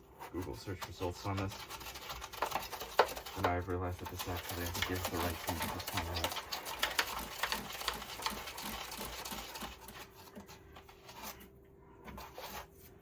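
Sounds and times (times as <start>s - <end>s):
scratching and clicking on foam: 0.0s - 13.0s.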